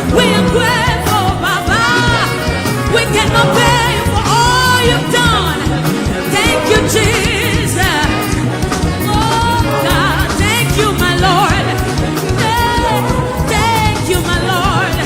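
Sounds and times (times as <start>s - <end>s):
band with steady bass: 0.0s - 15.0s
voices singing with vibrato: 0.0s - 15.0s.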